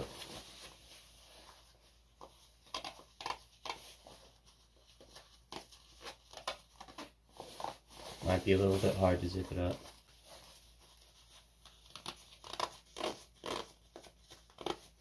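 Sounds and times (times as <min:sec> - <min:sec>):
jacket fabric rustling: 0:00.0 - 0:15.0.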